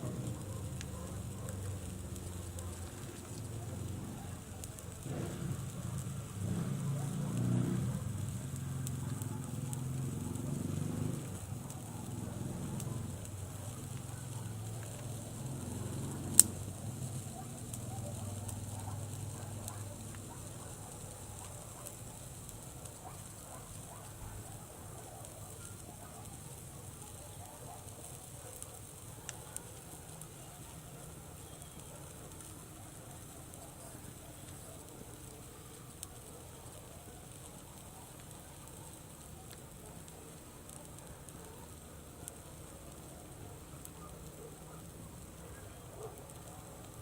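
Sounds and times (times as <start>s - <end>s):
campfire burning: 0.0s - 47.0s
campfire pop: 0.0s - 47.0s.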